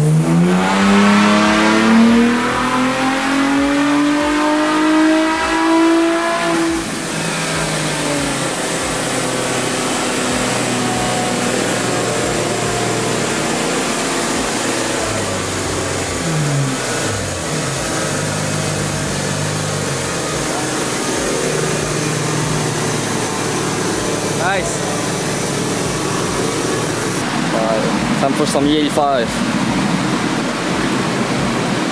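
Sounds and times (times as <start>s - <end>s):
car engine at high revs: 0.0s - 31.9s
steady rush of noise: 0.0s - 31.9s.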